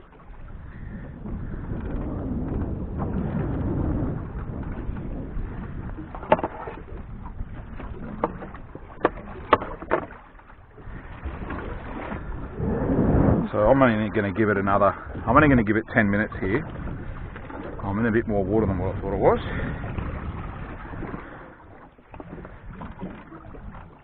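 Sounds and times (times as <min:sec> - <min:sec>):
sea sounds: 0:00.0 - 0:24.0
wind noise: 0:00.0 - 0:24.0.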